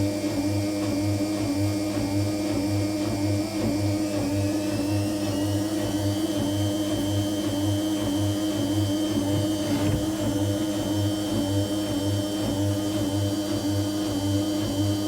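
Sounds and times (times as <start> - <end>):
washing machine pump humming: 0.0 - 15.0.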